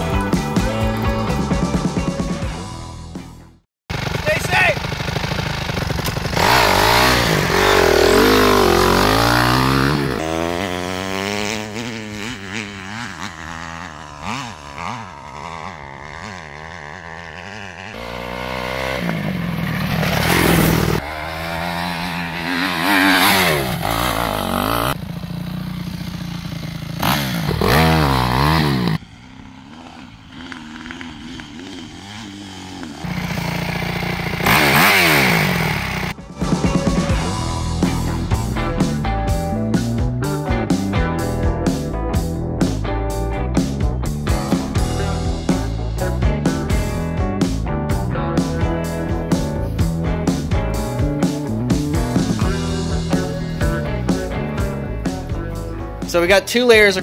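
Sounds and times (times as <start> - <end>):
dirt bike engine revving: 3.9 - 57.0.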